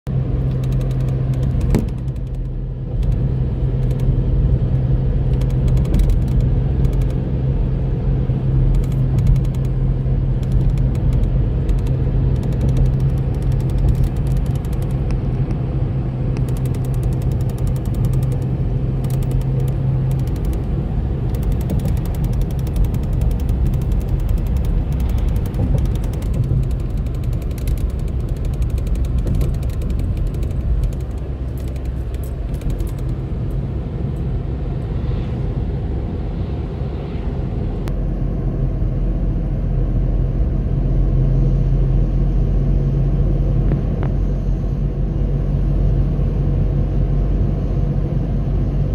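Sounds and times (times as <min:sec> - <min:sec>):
road rumble: 0:00.0 - 0:48.9
car engine drone: 0:00.1 - 0:48.9.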